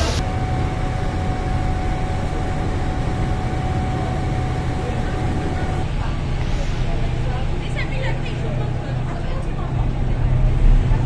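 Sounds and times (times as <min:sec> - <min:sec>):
constant whining tone: 0:00.0 - 0:10.7
boat engines droning: 0:00.0 - 0:11.0
wind: 0:00.0 - 0:11.0.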